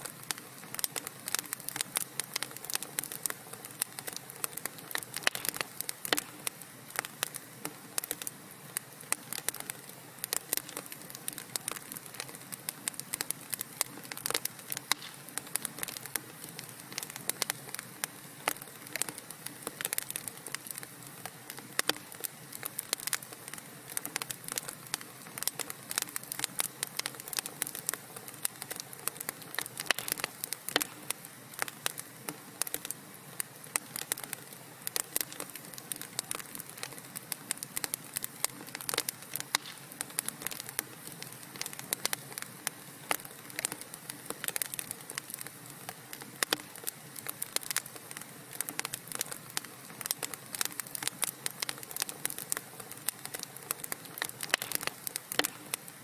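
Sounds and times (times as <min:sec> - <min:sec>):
wood fire pops and snaps: 0:00.0 - 0:08.4, 0:09.0 - 0:56.0
hiss of burning logs: 0:00.0 - 0:56.0.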